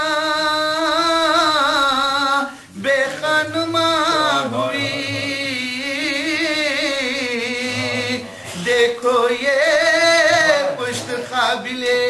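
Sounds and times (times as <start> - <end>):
man chanting unaccompanied: 0.0 - 12.0.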